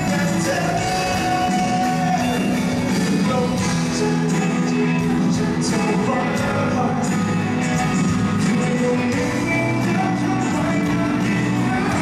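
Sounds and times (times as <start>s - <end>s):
rock music with singing: 0.0s - 12.0s
steady drum beat: 0.0s - 12.0s.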